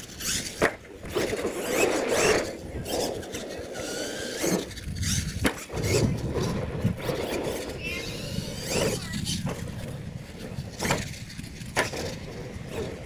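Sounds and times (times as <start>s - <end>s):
toy truck motor whining: 0.0s - 13.0s
tyres scraping through dirt: 0.0s - 13.0s.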